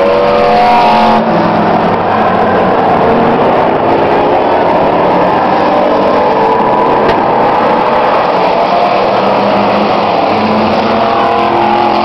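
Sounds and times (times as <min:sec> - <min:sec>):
race truck engines revving: 0:00.0 - 0:12.0.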